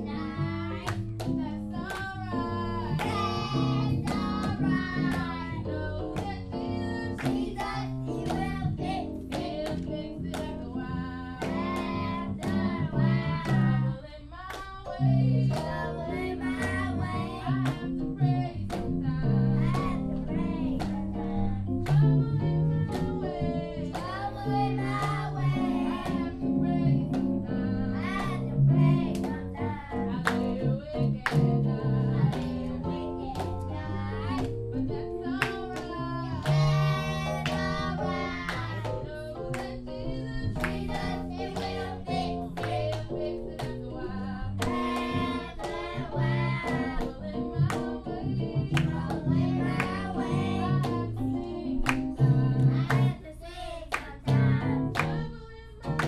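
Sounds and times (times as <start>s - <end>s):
group singing gospel song: 0.0s - 56.0s.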